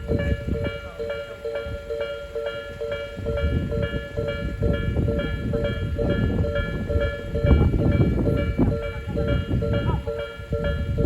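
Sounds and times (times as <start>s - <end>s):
level-crossing bell ringing: 0.0s - 11.0s
train rumbling past: 0.0s - 11.0s.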